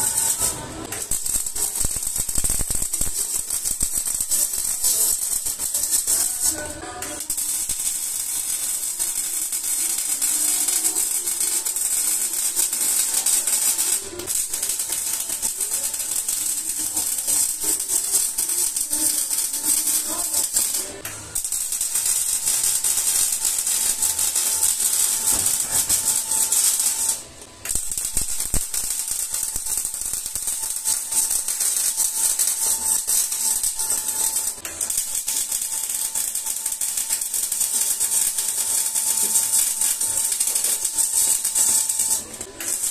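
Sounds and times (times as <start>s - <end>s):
welding arc crackling: 0.0s - 42.9s.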